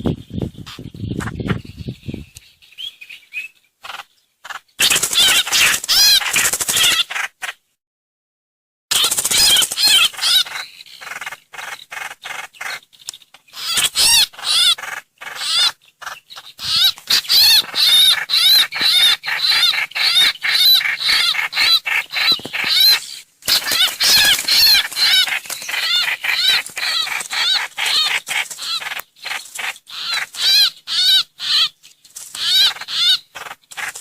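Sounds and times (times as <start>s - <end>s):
bird twittering chirps: 0.0s - 7.3s, 8.9s - 34.0s.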